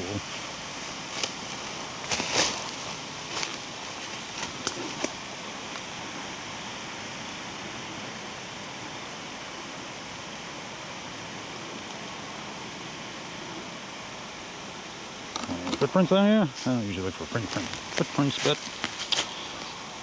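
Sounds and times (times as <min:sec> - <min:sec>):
wind hiss: 0:00.0 - 0:20.0.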